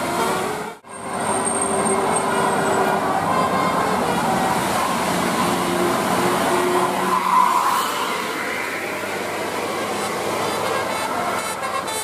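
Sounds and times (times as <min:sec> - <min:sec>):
bus passing: 0:00.0 - 0:12.0.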